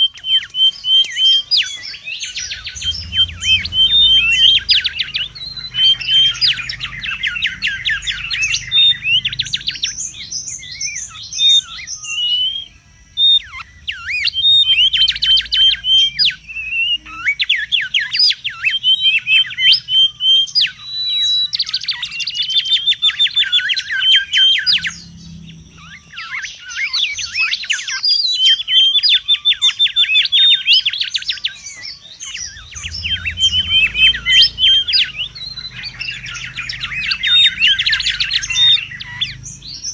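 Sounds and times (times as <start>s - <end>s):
bird whistling calls: 0.0s - 39.9s.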